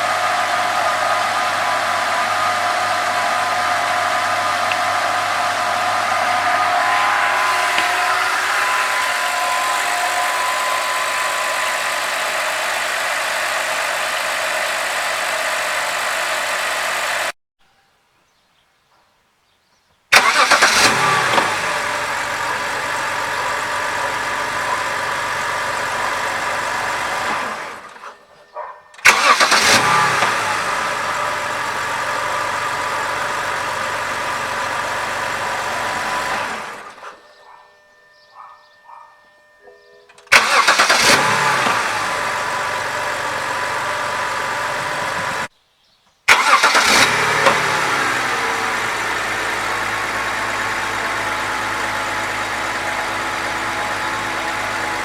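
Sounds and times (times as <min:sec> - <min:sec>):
car engine running with hissing: 0:00.0 - 0:17.3, 0:20.2 - 0:28.1, 0:29.0 - 0:37.2, 0:40.3 - 0:45.5, 0:46.3 - 0:55.0.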